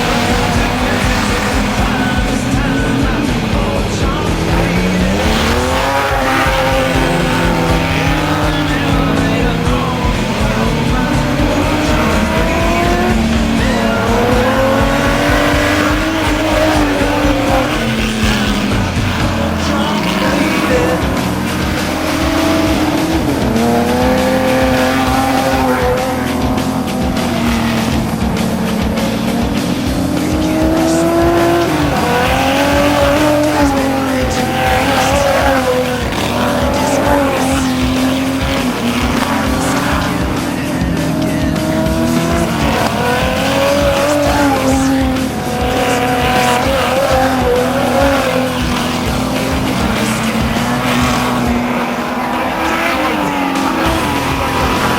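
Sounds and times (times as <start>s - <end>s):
race car engines revving: 0.0s - 54.9s.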